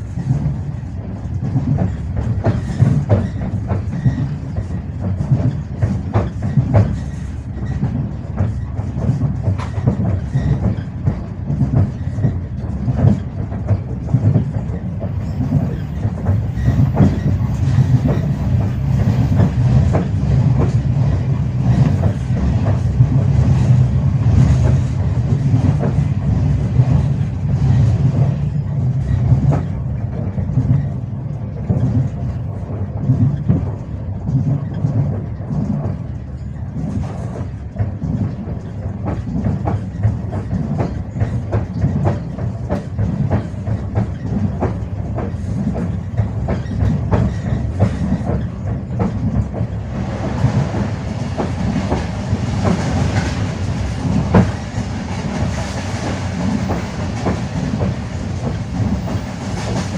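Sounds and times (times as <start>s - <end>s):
train wheels clattering over rail joints: 0.0s - 59.9s.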